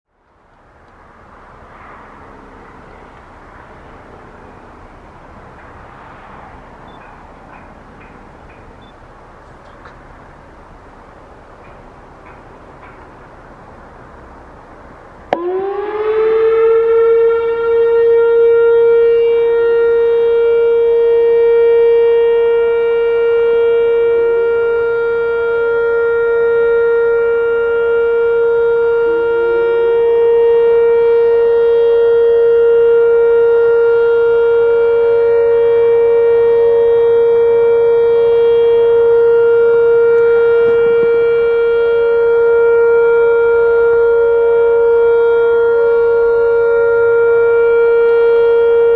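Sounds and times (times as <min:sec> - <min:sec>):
distant sirens rising: 0:00.1 - 0:48.9
outdoor warning siren: 0:00.1 - 0:48.9.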